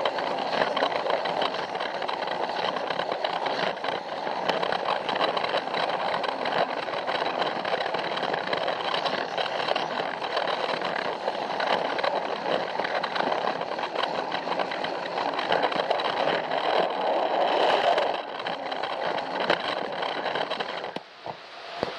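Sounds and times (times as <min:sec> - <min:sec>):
toy train motor whirring: 0:00.0 - 0:21.9
wheels clicking over rails: 0:00.0 - 0:21.9.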